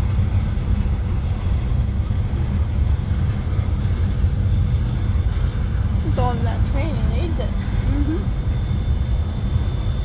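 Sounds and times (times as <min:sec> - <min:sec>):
freight train wheels rumbling on rails: 0:00.0 - 0:10.0.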